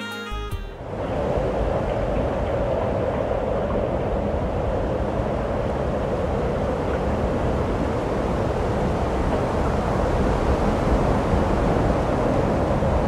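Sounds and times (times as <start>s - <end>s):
wind: 0.8s - 13.0s.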